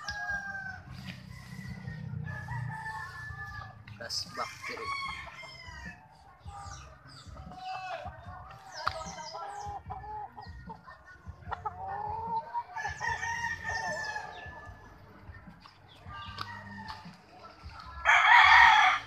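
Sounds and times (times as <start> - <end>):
roosters crowing and clucking: 0.0 - 19.0.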